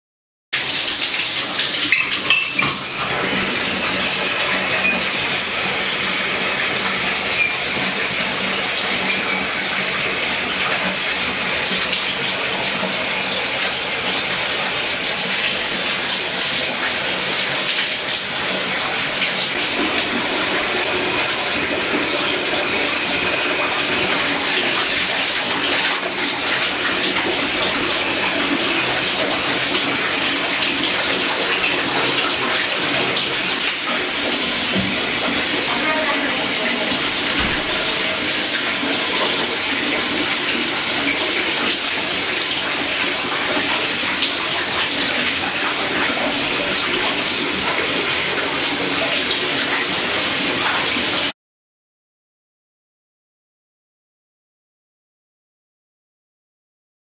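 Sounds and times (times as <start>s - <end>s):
shower water spraying: 0.6s - 51.3s.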